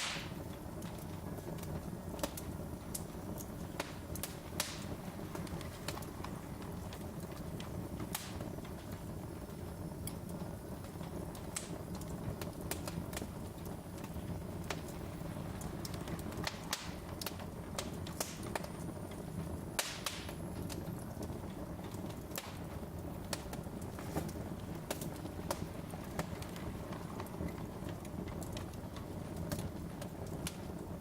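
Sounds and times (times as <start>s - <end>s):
low rumble of burning logs: 0.0s - 31.0s
wood fire crackling: 0.0s - 31.0s.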